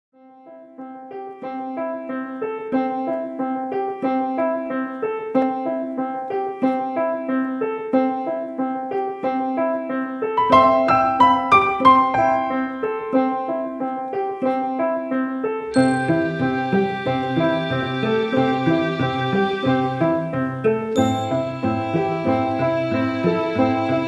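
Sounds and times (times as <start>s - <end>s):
piano music: 0.2s - 24.0s.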